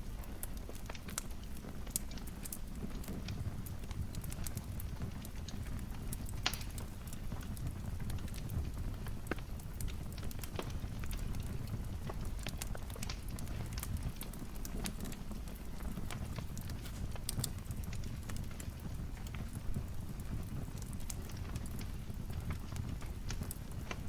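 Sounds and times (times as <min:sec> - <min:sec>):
fire crackling and popping: 0:00.0 - 0:24.0
flames rumbling: 0:00.0 - 0:24.0
loud fire crack: 0:00.0 - 0:24.0.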